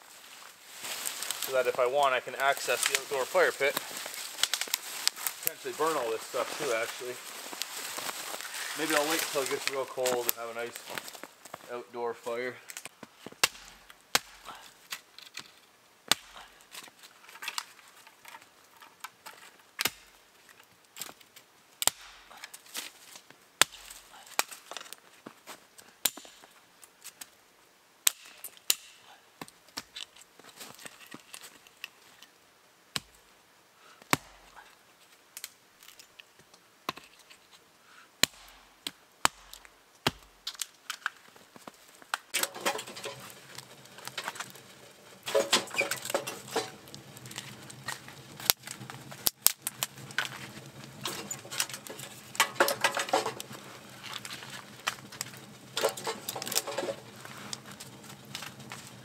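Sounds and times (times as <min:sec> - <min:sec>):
firewood cracking and knocking: 0:00.7 - 0:11.8, 0:12.6 - 0:27.3, 0:28.0 - 0:32.3, 0:34.0 - 0:34.7, 0:35.4 - 0:37.5, 0:38.2 - 0:59.0.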